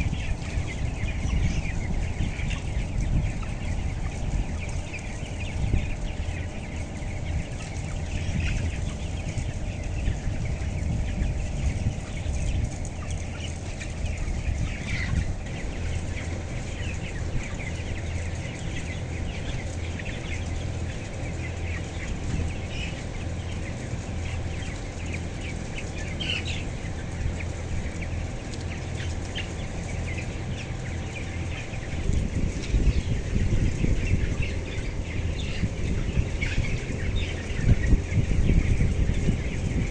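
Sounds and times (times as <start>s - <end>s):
chickens peeping and chirping: 0.0s - 39.9s
steady low hum: 0.0s - 39.9s.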